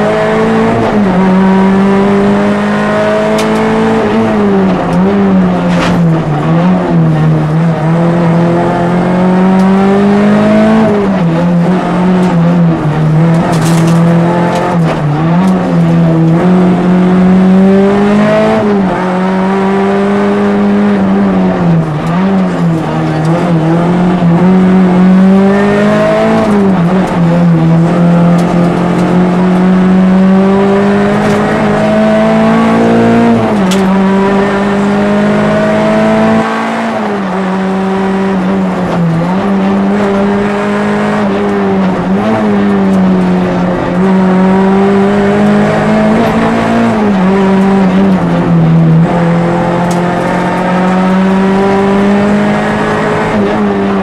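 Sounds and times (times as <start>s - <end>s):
rally car engine at full throttle: 0.0s - 54.0s.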